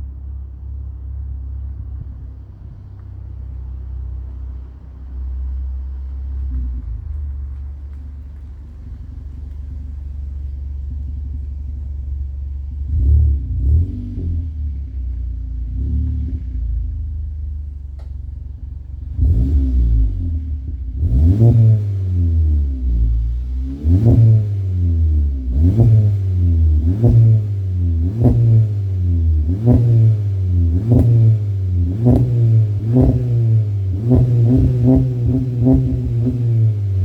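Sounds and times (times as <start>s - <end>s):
car engine idling: 0.0s - 37.0s
car engine revving in blips: 0.0s - 37.0s.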